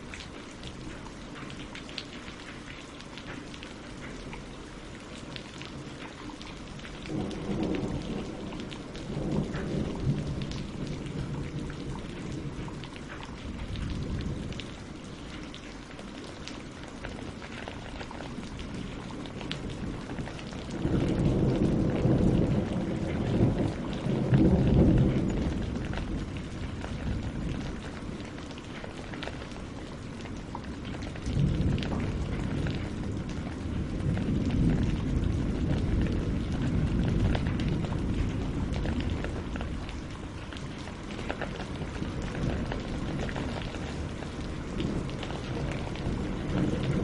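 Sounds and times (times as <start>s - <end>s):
rain on leaves and water: 0.0s - 47.0s
thunder rumbling: 6.8s - 15.4s, 16.9s - 47.0s.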